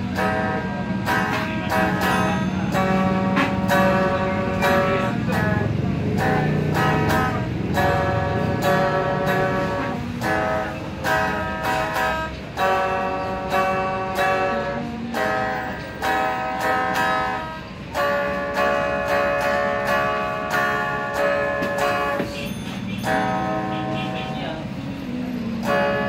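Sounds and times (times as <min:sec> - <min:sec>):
electric guitar strummed chords: 0:00.0 - 0:26.0.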